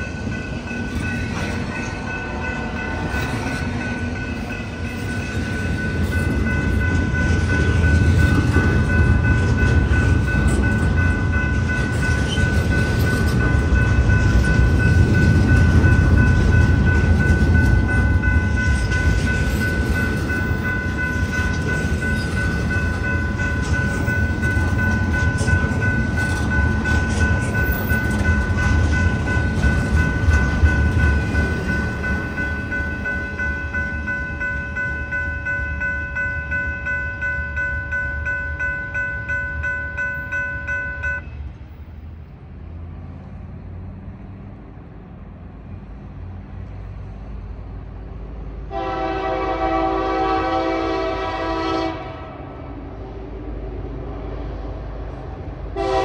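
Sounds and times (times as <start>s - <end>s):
crossing warning bell ringing: 0.0s - 42.1s, 48.7s - 52.1s, 55.7s - 56.0s
outdoor background: 0.0s - 56.0s
train wheels rumbling and clattering: 0.0s - 56.0s.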